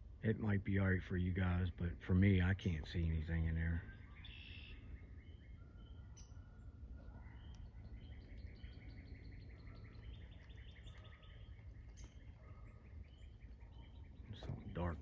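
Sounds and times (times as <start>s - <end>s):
low background rumble: 0.0s - 15.0s
songbirds chirping: 0.0s - 15.0s.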